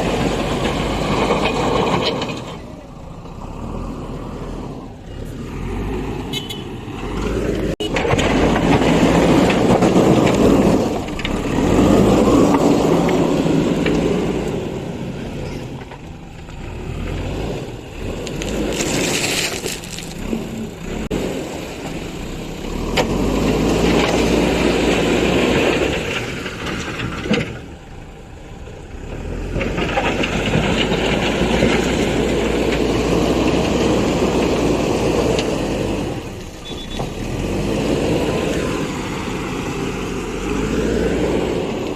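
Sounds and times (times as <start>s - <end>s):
heavy diesel engine under load: 0.0s - 41.9s.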